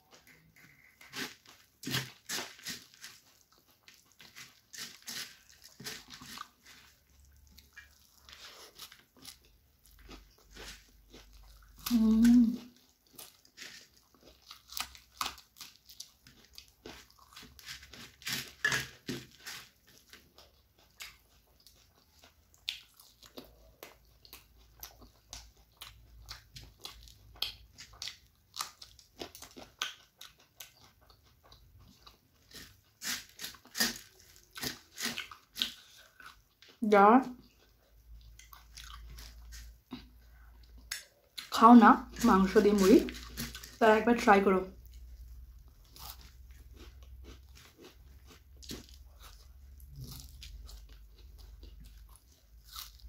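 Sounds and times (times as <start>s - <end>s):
crunching and chewing food: 0.0s - 53.0s.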